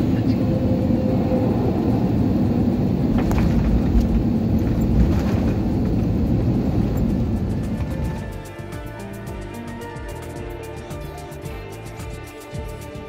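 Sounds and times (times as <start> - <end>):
airliner low rumble: 0.0 - 13.0.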